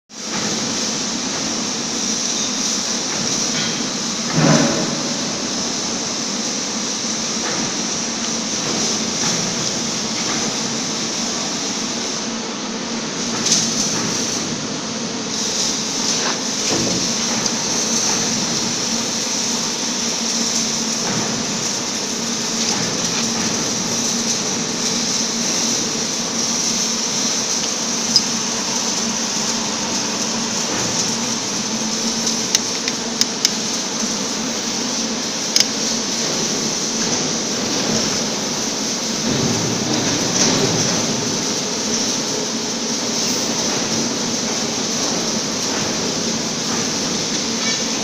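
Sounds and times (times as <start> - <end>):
workshop machinery hum and hiss: 0.1 - 48.0.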